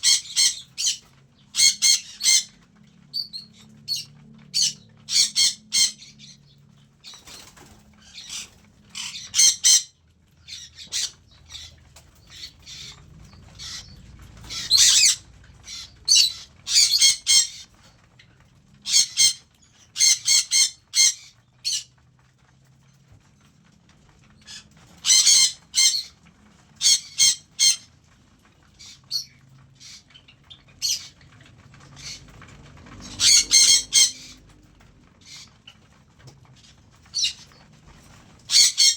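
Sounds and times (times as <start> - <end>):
cockatiels squawking: 0.0 - 17.9, 18.8 - 22.0, 24.4 - 28.0, 28.8 - 34.5, 37.0 - 38.9.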